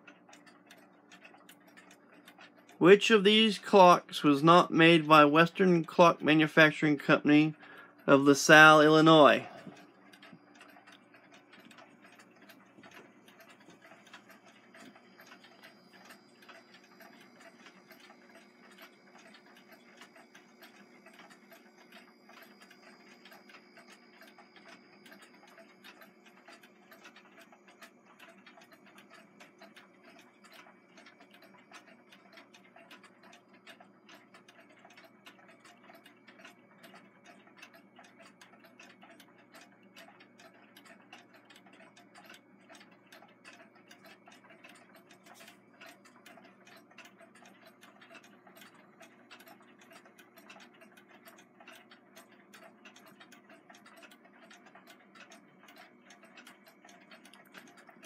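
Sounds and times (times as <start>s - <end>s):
many alarm clocks ticking: 0.0s - 58.0s.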